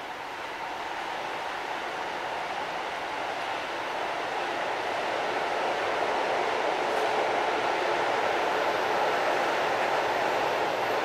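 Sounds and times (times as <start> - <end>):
train wheels rushing on track: 0.0 - 11.0.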